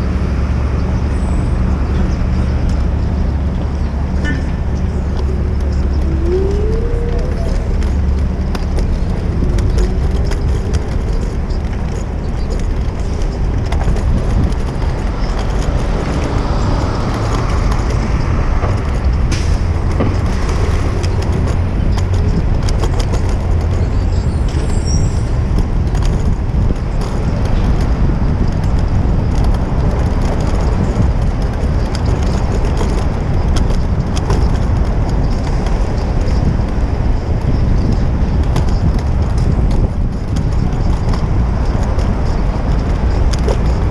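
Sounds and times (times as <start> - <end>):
city street traffic: 0.0 - 43.9
wind rumble on microphone: 0.0 - 43.9.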